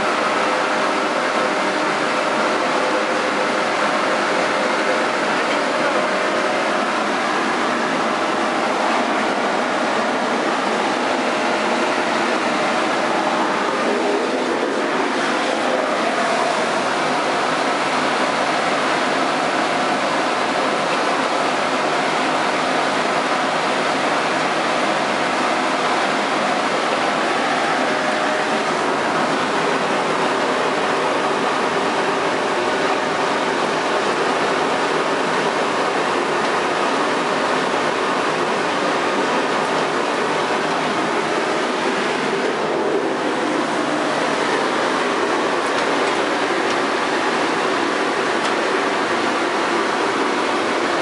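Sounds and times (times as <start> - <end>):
brick-making machinery running: 0.0 - 51.0.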